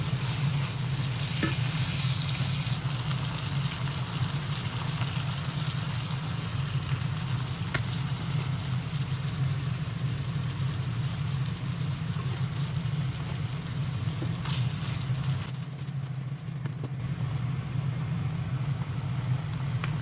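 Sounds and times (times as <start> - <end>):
meat sizzling in a frying pan: 0.0 - 16.2
steady low hum: 0.0 - 20.0.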